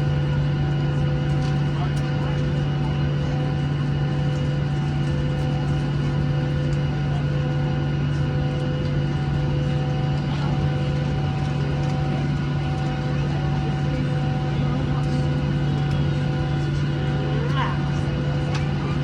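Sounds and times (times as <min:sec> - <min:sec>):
aircraft cabin droning hum: 0:00.0 - 0:19.0.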